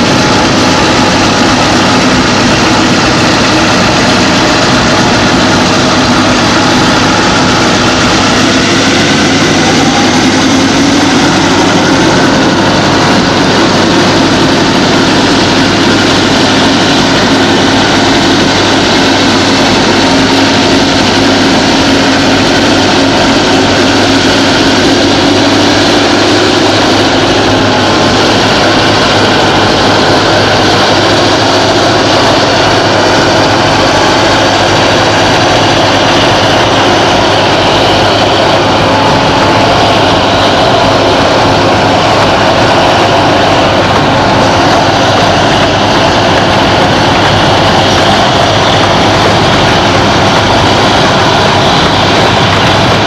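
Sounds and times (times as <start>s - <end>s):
diesel locomotive engine drone: 0.0s - 53.0s.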